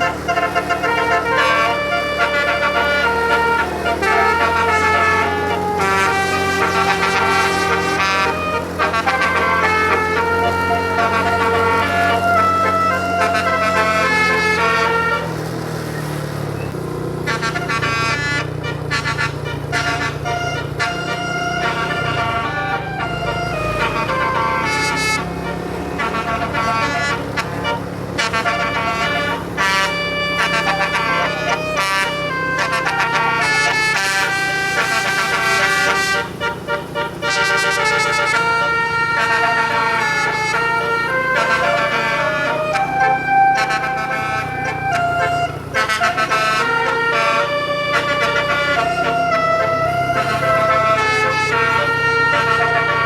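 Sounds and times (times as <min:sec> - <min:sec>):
low engine hum: 0:00.0 - 0:53.0
multi-tone bus horn melody: 0:00.0 - 0:53.0.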